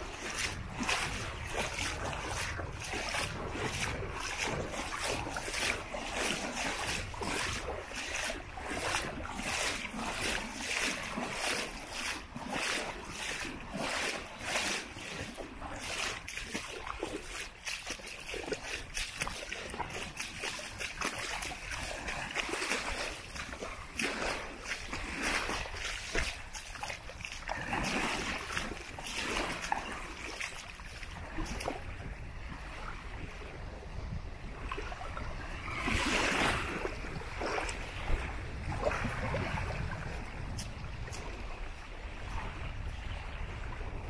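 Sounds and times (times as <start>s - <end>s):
small waves lapping at shore: 0.0s - 44.0s
wind rumble on microphone: 0.0s - 44.0s.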